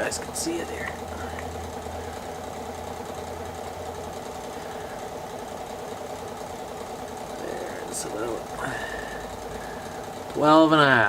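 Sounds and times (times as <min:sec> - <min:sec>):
electric fan whirring: 0:00.0 - 0:11.0.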